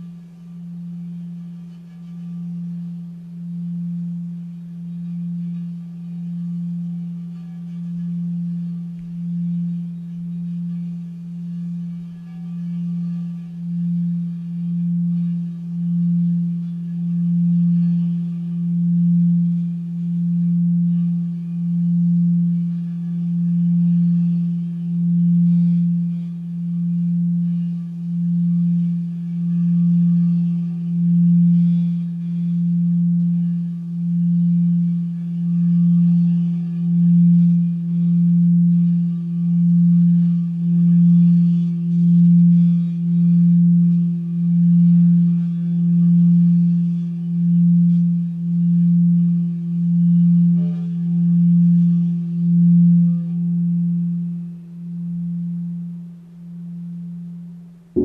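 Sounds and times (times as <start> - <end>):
singing bowl low tone: 0.0 - 58.0.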